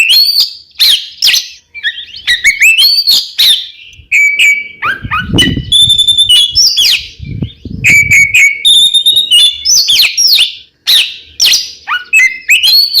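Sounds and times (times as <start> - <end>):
bird singing: 0.0 - 13.0.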